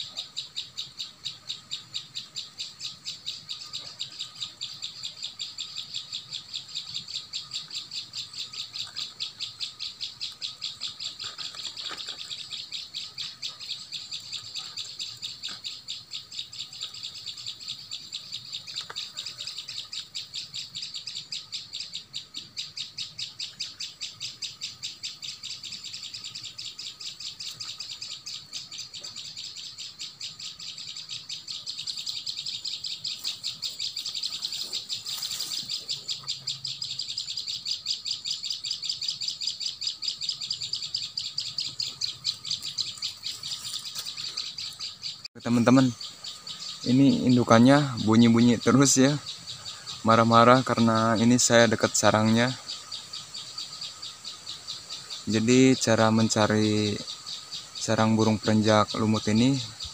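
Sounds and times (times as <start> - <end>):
bird scolding chirps: 0.0 - 59.9.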